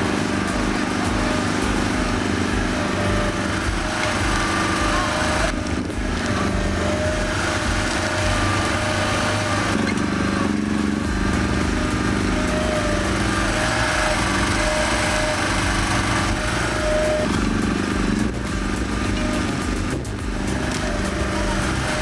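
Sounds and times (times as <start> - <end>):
mini excavator engine running: 0.0 - 22.0.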